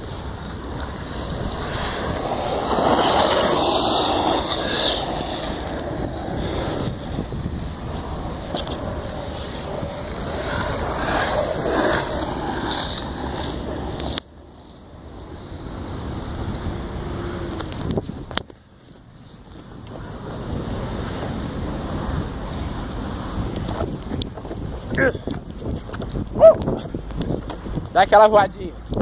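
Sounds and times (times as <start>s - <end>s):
wind noise on microphone: 0.0s - 14.2s, 15.4s - 18.6s, 19.5s - 29.0s
skateboard wheels rolling on asphalt: 0.0s - 29.0s.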